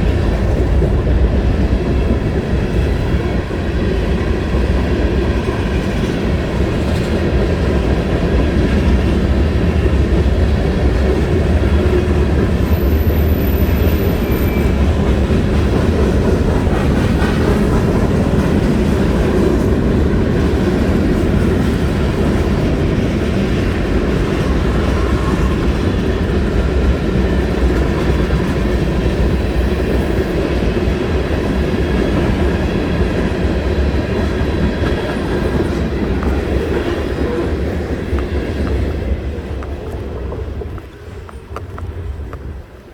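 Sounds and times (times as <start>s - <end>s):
freight train rolling past: 0.0s - 42.9s.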